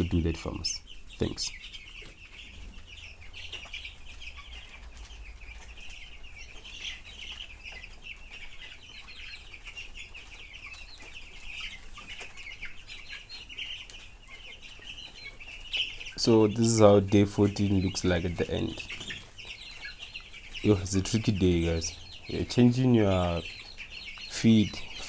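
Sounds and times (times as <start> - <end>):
chicks peeping and chirping: 0.0 - 25.0.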